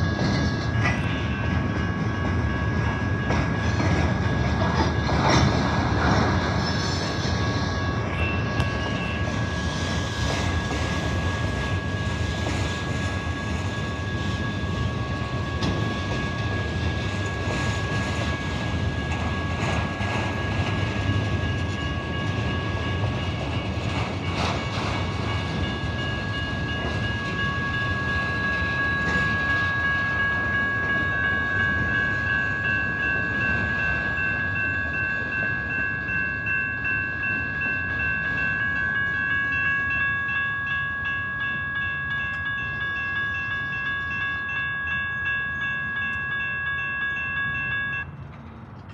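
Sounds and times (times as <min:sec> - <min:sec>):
crossing warning bell ringing: 0:00.0 - 0:48.9
freight train rumbling past: 0:00.0 - 0:48.9.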